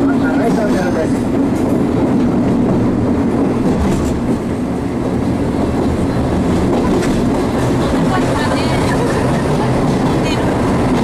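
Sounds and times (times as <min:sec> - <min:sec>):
diesel locomotive engine drone: 0:00.0 - 0:11.0
rail running noise: 0:00.0 - 0:11.0.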